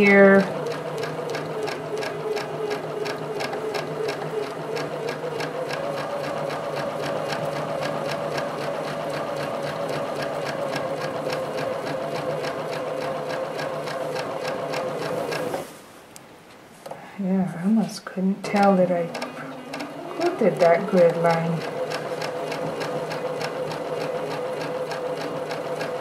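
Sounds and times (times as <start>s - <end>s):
sewing machine running: 0.0s - 15.6s, 19.0s - 26.0s.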